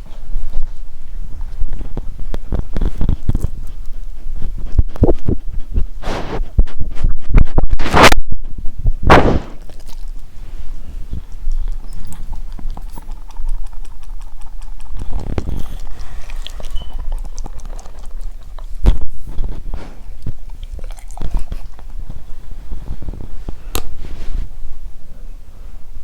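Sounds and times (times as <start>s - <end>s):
dog chewing and lip-smacking: 0.0s - 8.4s, 9.5s - 24.0s.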